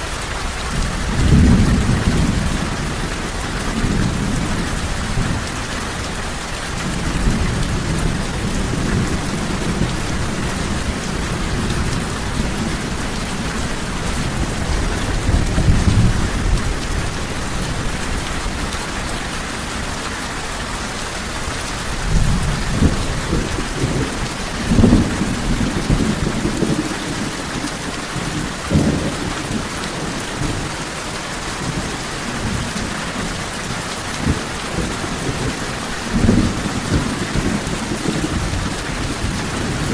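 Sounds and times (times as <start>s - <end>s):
heavy rain: 0.0s - 39.9s
low rumbling thunder: 0.7s - 19.2s, 21.9s - 30.8s, 34.2s - 39.9s.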